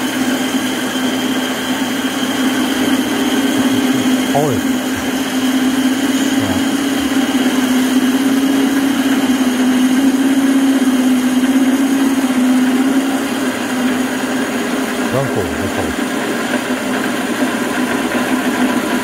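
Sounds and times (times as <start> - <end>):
band saw cutting metal pipe: 0.7 - 16.4.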